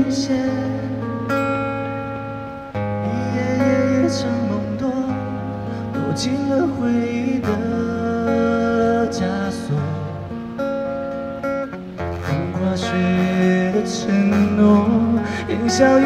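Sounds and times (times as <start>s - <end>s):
acoustic guitars strumming and picking: 0.0s - 16.0s.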